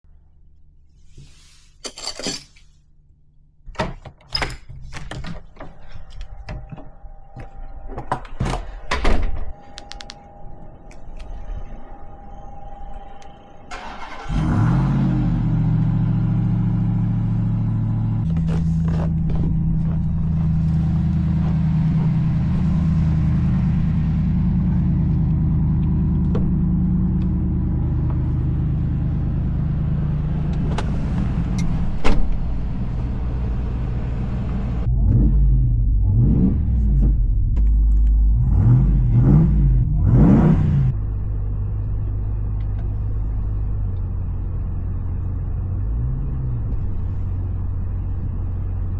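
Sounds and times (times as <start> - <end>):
truck engine idling and revving: 9.6 - 48.9.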